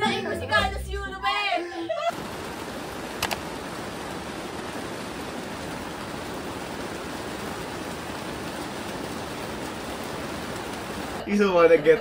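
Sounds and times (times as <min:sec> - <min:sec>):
rain falling steadily: 0:01.9 - 0:12.0.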